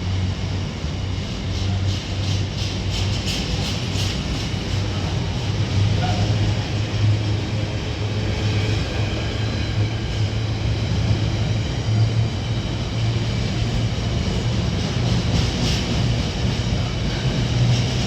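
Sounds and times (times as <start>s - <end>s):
railway rumble: 0.0s - 18.0s.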